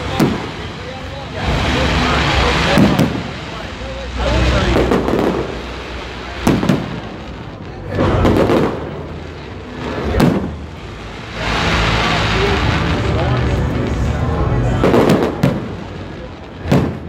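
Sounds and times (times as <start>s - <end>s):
firework booms: 0.0s - 17.0s
firework crackling: 0.0s - 17.0s.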